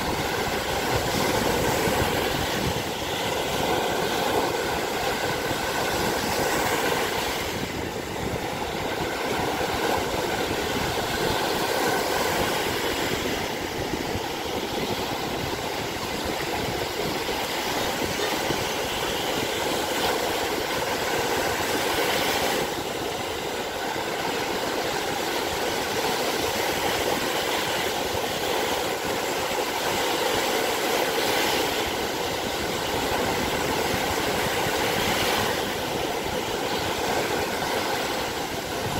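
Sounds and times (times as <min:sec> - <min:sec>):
waves washing onto sandy beach: 0:00.0 - 0:38.9.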